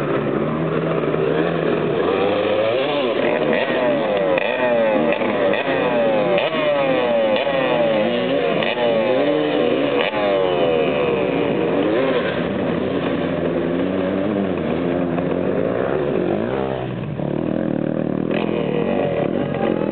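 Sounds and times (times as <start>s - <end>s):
motorcycle engines revving hard: 0.0s - 19.9s.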